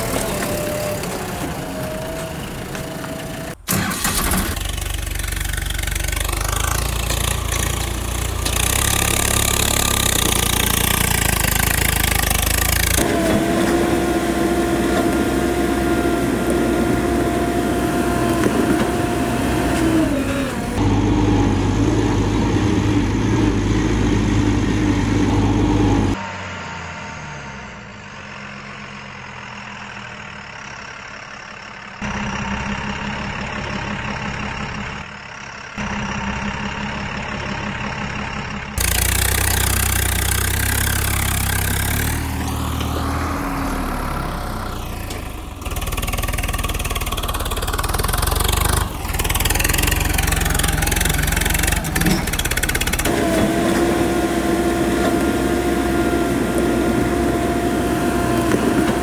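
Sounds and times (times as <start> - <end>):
heavy vehicle engine: 0.0 - 59.0.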